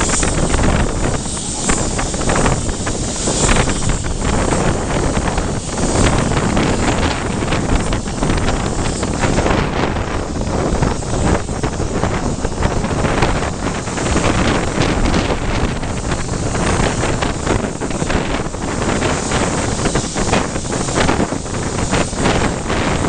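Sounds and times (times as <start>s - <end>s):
moving train running noise: 0.0s - 23.0s
wind buffeting microphone: 0.0s - 23.0s.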